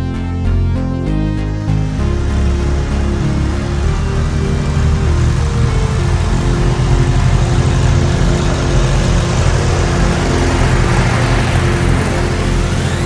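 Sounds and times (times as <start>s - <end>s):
vehicle engine running steadily: 1.7s - 13.0s.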